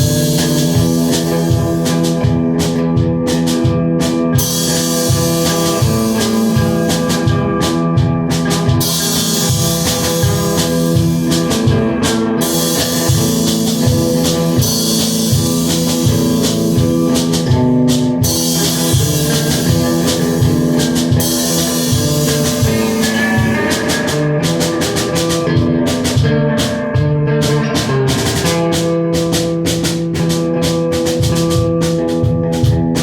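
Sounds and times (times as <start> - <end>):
drum beat with cymbals: 0.0 - 33.0
ringing guitar chords: 0.0 - 33.0.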